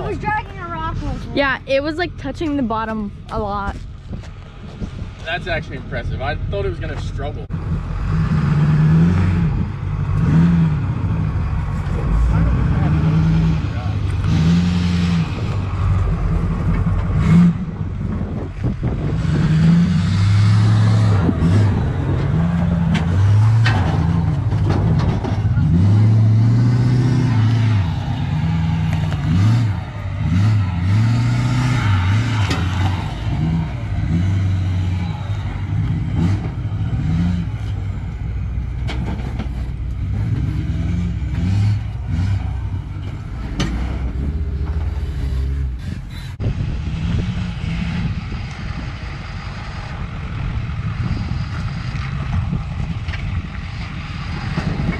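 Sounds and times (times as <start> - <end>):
diesel truck engine revving: 0.0 - 54.9.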